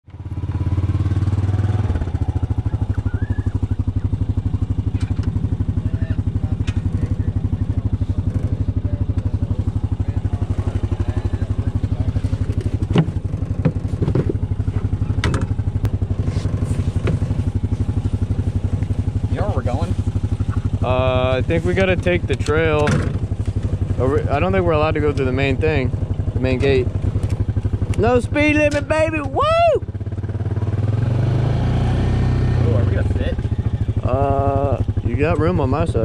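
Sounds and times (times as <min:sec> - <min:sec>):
dirt bike engine idling: 0:00.1 - 0:36.0.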